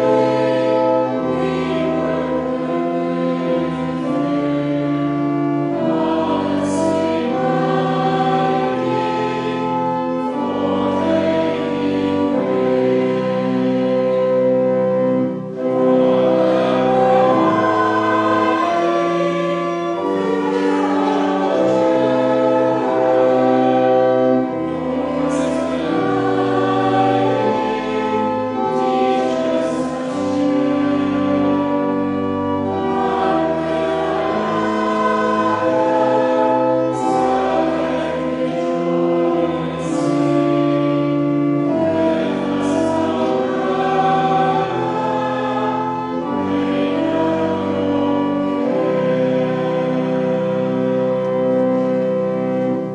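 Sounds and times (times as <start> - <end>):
choir singing a hymn: 0.0 - 52.9.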